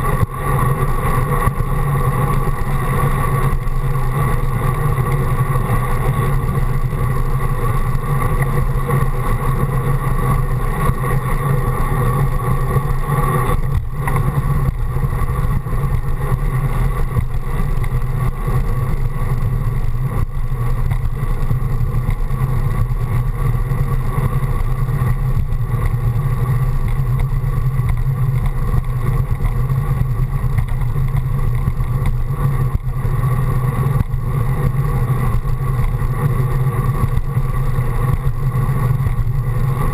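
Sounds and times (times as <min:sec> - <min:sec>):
tyres rumbling on pavement: 0:00.0 - 0:39.9.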